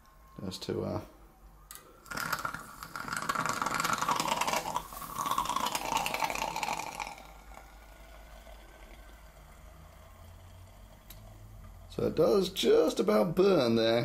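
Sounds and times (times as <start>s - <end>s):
liquid oxygen boiling: 1.7s - 14.0s.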